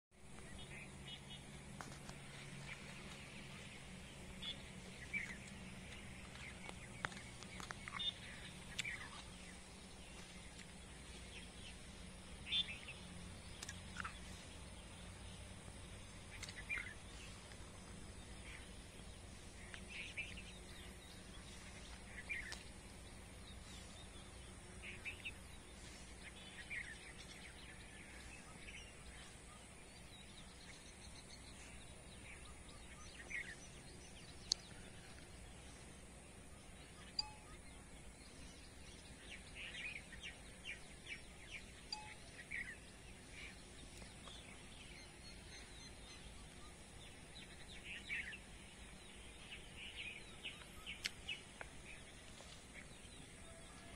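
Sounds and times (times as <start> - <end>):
birds chirping: 0.1 - 53.9
faint open-air hiss: 0.1 - 53.9.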